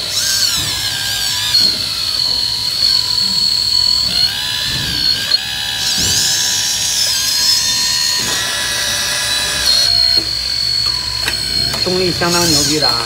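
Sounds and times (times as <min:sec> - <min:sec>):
electric pump whining: 0:00.0 - 0:13.0.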